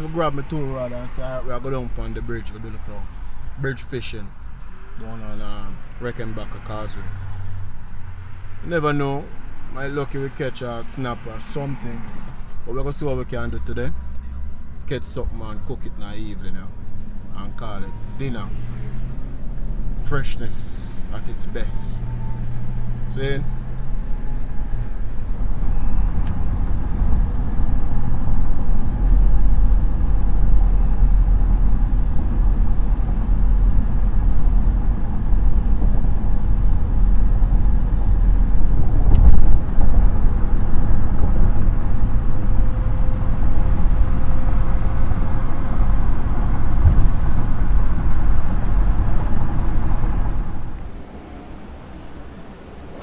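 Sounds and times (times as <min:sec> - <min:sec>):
car road and engine noise: 0:00.0 - 0:53.0.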